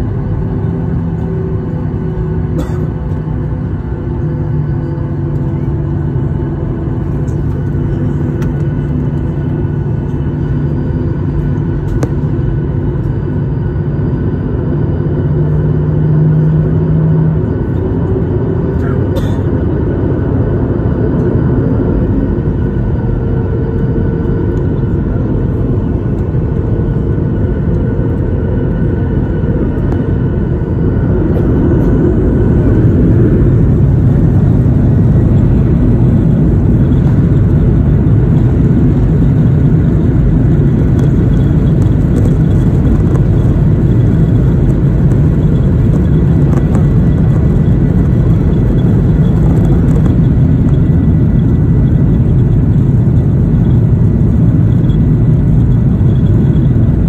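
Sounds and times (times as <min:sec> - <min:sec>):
jet engines from cabin: 0:00.0 - 0:57.0.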